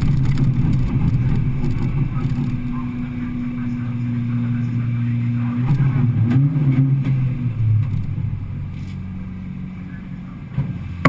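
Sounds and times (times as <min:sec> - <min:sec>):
car engine from inside: 0:00.0 - 0:11.0.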